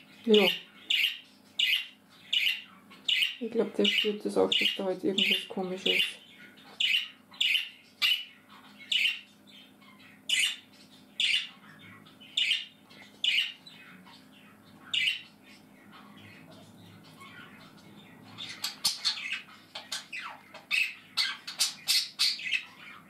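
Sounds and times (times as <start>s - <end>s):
budgerigar calling: 0.0s - 23.0s.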